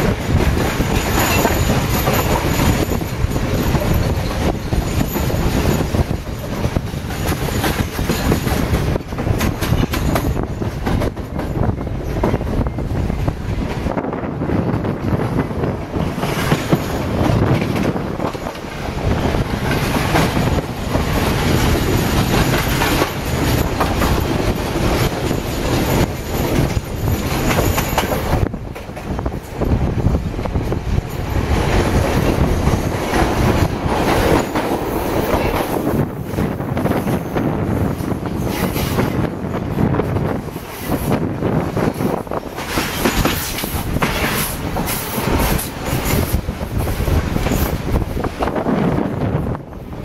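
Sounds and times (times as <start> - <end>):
wheels clattering over rails: 0.0 - 13.0, 14.6 - 48.6
train rumble: 0.0 - 50.0.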